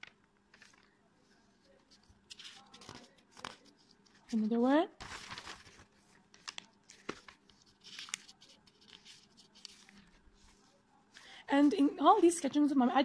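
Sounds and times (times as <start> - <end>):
paper rustling: 0.0 - 12.3.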